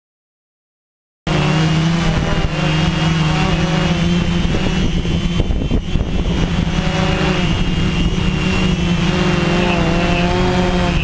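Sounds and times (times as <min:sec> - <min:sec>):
quadcopter propellers buzzing: 0:01.3 - 0:11.0.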